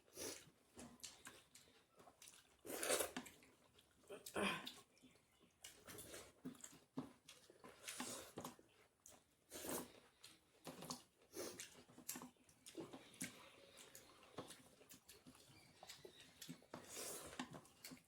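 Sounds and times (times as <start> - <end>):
chewing and mouth smacking: 0.2 - 18.0.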